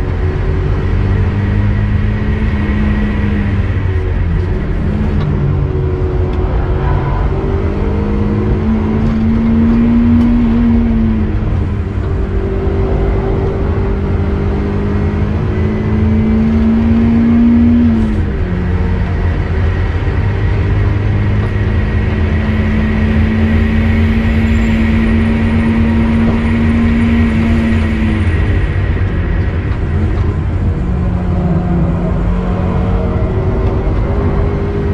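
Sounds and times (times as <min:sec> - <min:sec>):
car engine at high revs: 0:00.0 - 0:34.9
heavy low rumble: 0:00.0 - 0:34.9.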